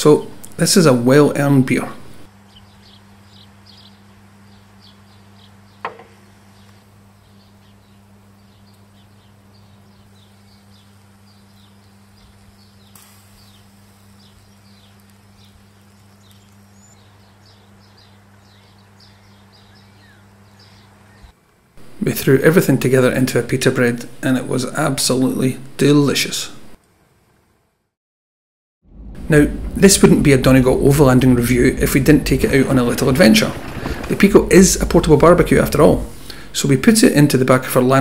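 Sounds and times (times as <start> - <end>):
low steady hum: 0.0 - 26.8, 28.9 - 38.0.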